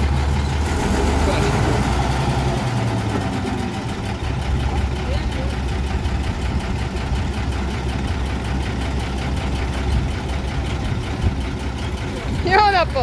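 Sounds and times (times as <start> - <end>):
large vehicle engine idling: 0.0 - 13.0.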